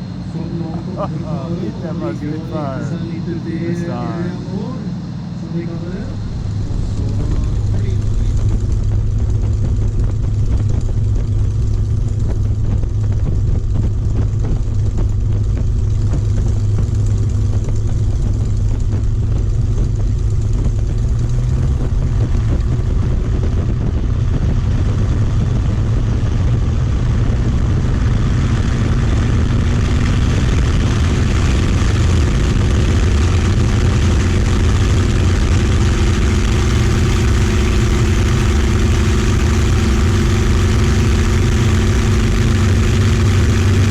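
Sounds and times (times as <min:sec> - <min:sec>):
piston engine running: 0:00.0 - 0:43.9.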